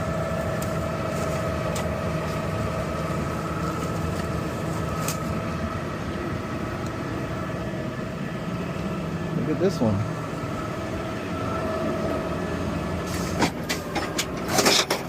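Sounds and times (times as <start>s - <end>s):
garbage truck engine drone: 0.0s - 15.0s
steady whine: 0.0s - 15.0s.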